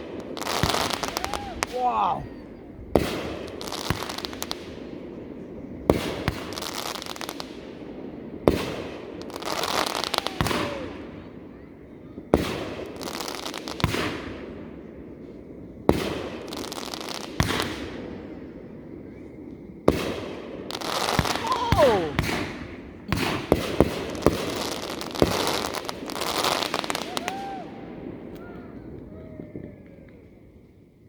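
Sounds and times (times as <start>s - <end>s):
fireworks bangs with crackling: 0.0s - 30.8s.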